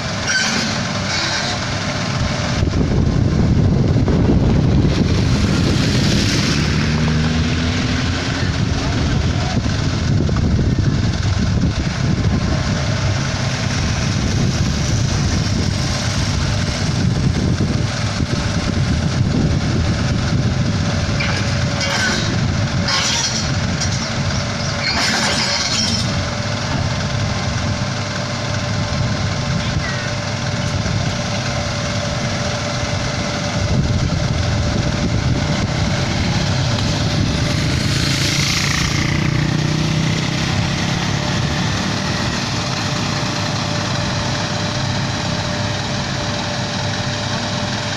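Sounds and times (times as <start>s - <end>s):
excavator diesel engine running: 0.0s - 47.9s
steady mechanical whine: 0.0s - 47.9s.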